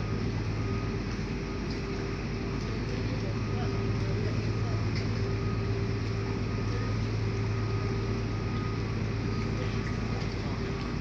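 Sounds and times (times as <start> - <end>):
constant whine: 0.0 - 11.0
ship engine humming: 0.0 - 11.0
water noise: 0.0 - 11.0.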